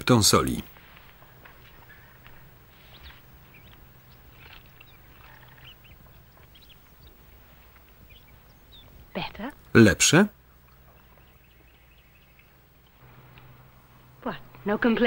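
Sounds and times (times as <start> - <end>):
low background hum: 0.0 - 15.0
high bird chirps: 1.5 - 13.6.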